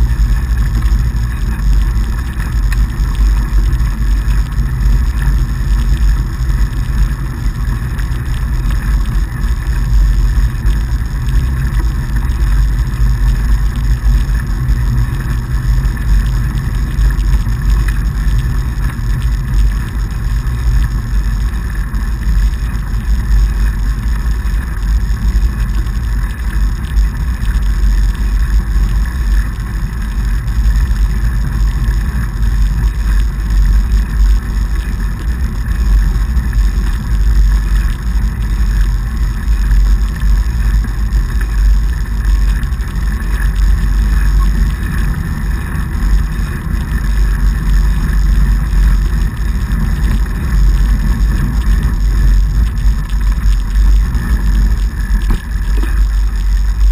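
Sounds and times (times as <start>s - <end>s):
bike tyres rolling over packed snow: 0.0s - 56.9s.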